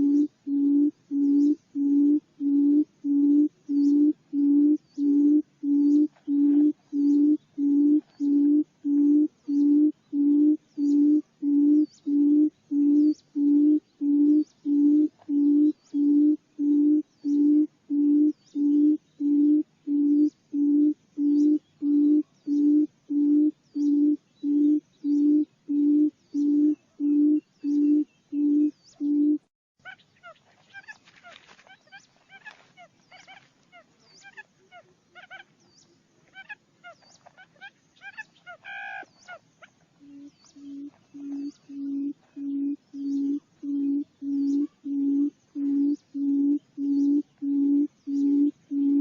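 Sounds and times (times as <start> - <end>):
bird hooting call: 0.0 - 35.5, 36.3 - 49.0.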